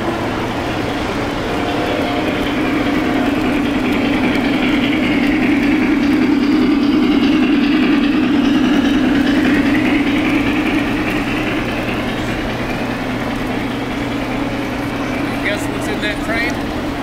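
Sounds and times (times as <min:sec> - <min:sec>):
model trains rumbling on rails: 0:00.0 - 0:17.0.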